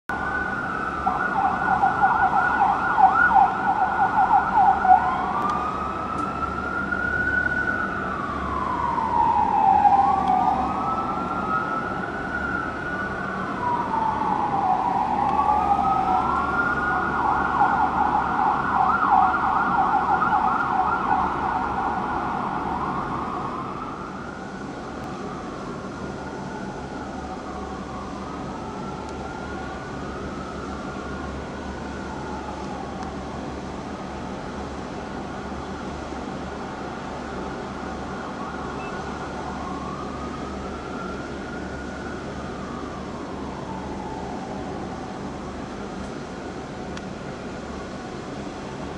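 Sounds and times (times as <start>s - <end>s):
fire engine siren yelping and wailing: 0.1s - 48.9s.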